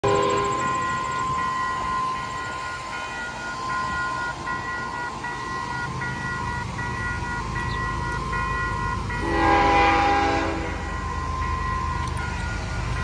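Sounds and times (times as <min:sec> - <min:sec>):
railroad crossing bell ringing: 0:00.0 - 0:13.0.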